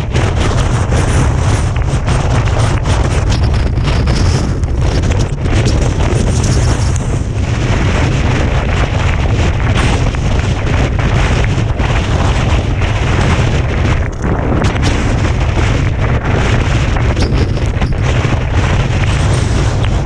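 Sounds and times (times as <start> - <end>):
skis scraping over snow: 0.0 - 20.0
wind buffeting microphone: 0.0 - 20.0.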